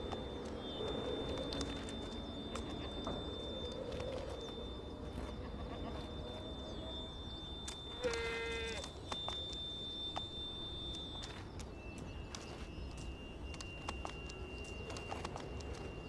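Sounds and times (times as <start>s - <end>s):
thin steady high tone: 0.0s - 16.0s.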